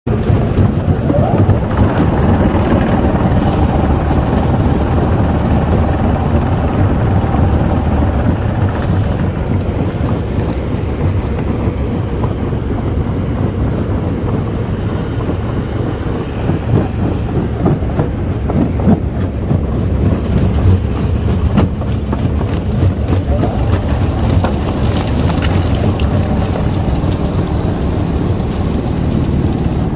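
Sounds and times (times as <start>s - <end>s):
heavy machinery rumbling and rattling: 0.1s - 29.9s.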